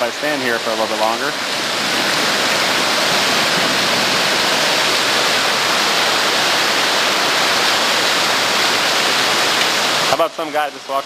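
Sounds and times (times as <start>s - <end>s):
rush of pouring water: 0.0s - 11.0s.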